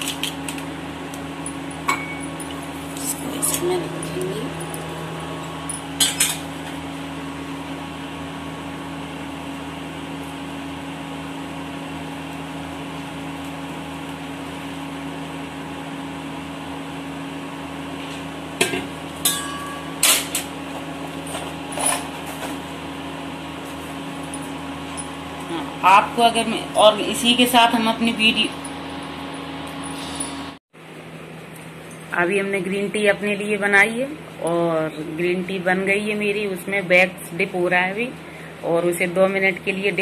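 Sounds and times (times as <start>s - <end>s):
steady electrical hum: 0.0s - 40.0s.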